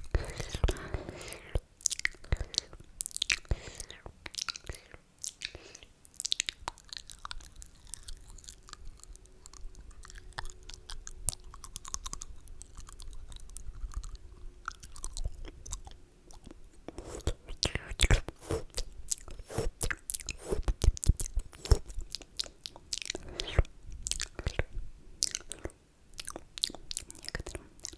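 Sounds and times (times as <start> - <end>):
wet mouth smacking and clicking: 0.3 - 27.9.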